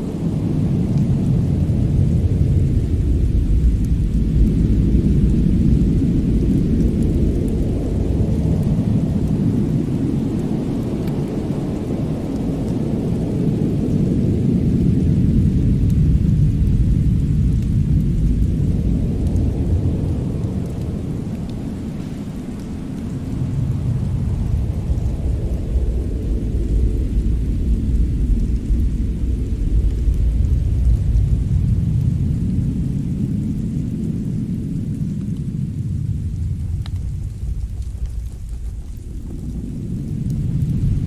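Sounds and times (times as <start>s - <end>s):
faint fire crackles: 0.0s - 41.0s
fireplace low rumble: 0.0s - 41.0s.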